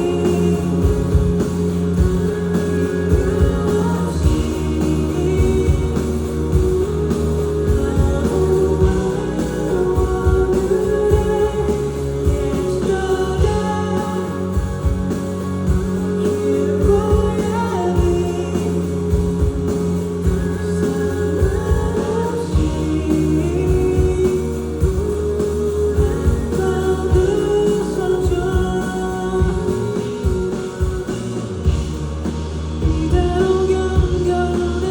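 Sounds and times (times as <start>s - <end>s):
live pop-rock band: 0.0s - 34.9s
person singing: 0.0s - 34.9s.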